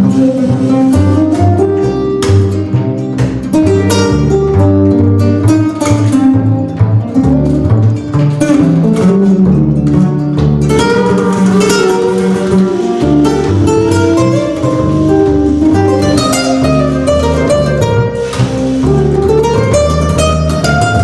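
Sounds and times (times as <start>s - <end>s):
flamenco guitar band playing: 0.0s - 21.0s
low bass notes: 0.0s - 21.0s.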